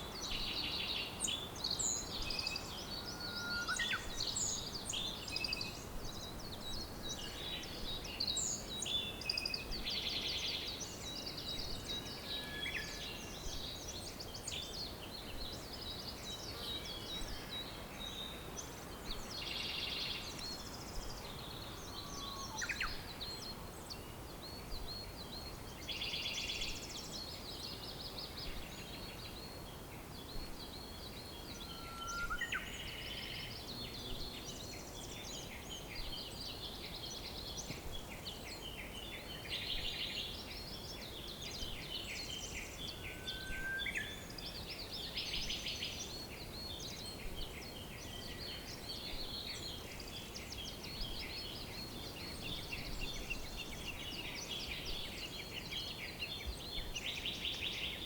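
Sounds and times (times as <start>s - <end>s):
low background hiss: 0.0s - 58.0s
songbirds chirping and trilling: 0.0s - 58.0s.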